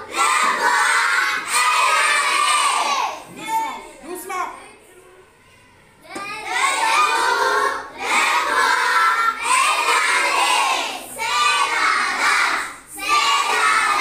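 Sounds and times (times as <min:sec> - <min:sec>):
children reading aloud in unison: 0:00.0 - 0:14.0.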